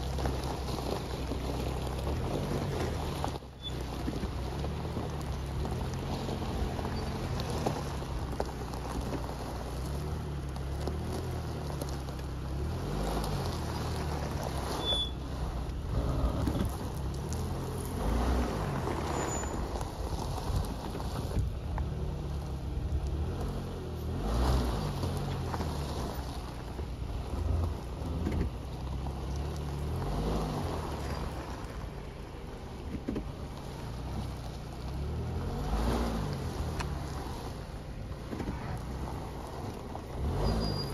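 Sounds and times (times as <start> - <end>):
car engine running low: 0.0 - 40.9
car tyres crunching on gravel: 0.0 - 40.9.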